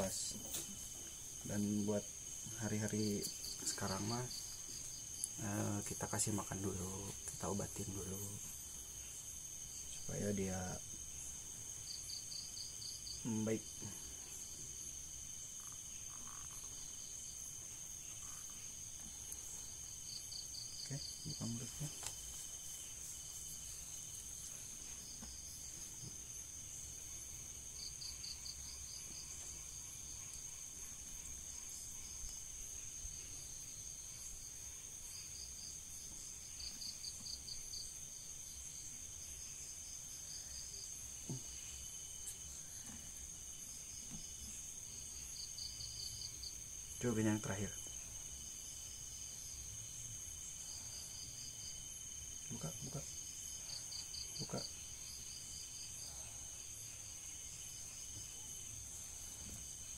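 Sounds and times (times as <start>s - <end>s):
crickets trilling: 0.0s - 59.9s
high-pitched insect drone: 0.0s - 59.9s.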